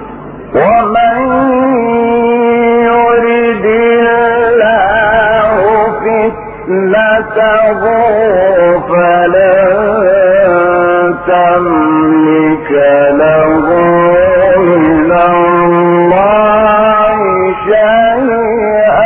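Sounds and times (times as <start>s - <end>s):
man reciting in melodic style: 0.4s - 19.0s.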